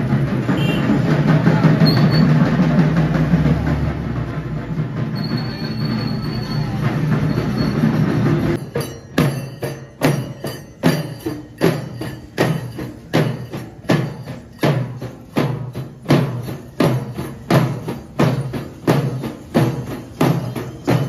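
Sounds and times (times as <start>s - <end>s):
street drummers drumming: 0.0s - 21.0s.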